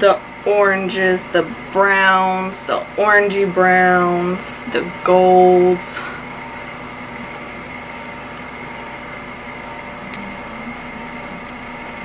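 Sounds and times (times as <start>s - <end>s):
faint steady tones: 0.0s - 12.0s
room hum and hiss: 0.0s - 12.0s.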